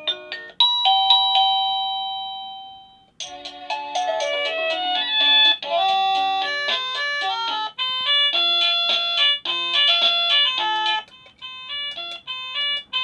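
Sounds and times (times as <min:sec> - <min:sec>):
doorbell chime melodies: 0:00.0 - 0:05.6, 0:07.8 - 0:13.0.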